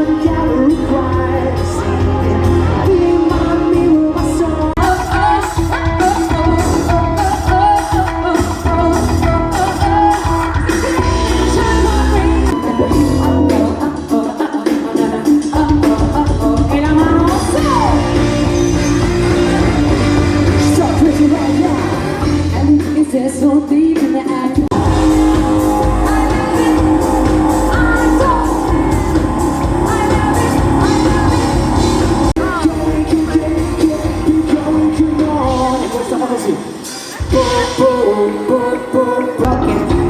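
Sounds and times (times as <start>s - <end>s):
live pop music with singing: 0.0s - 40.0s.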